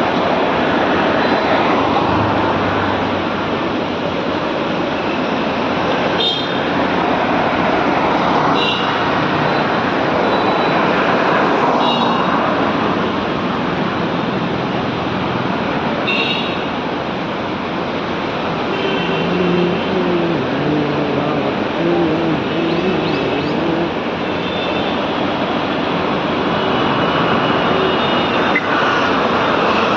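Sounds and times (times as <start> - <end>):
traffic noise: 0.0 - 29.9.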